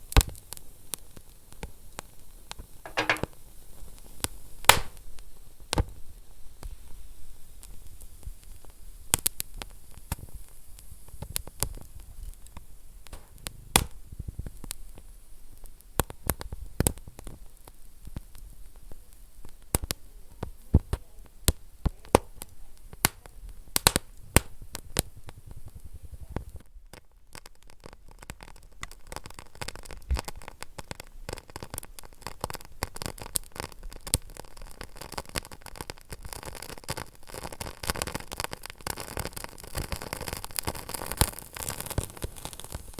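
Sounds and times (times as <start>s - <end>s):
low fire hiss: 0.0s - 42.9s
wood fire crackling and popping: 0.0s - 42.9s.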